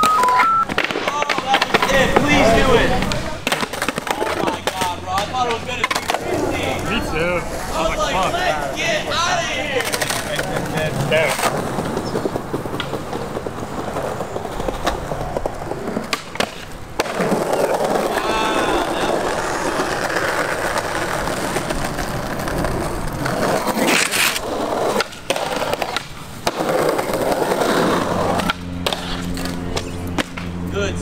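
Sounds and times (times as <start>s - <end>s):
skateboard clacking on ground: 0.0s - 6.9s, 7.5s - 30.7s
skateboard wheels rolling on stone: 0.0s - 30.7s.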